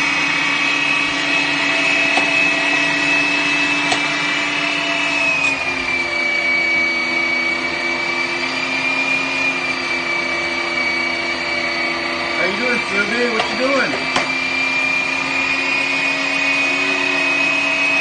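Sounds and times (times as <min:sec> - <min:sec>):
meat grinder motor whine: 0:00.0 - 0:18.0.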